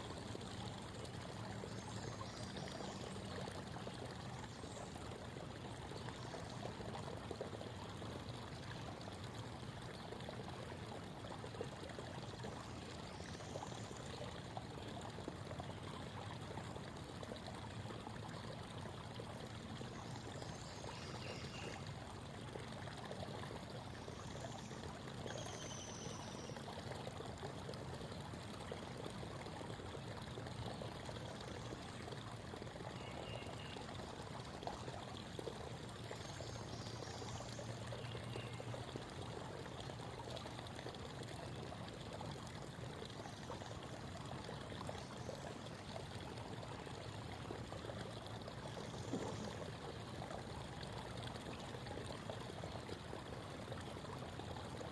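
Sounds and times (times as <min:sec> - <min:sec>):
creek babbling over stones: 0:00.0 - 0:54.9.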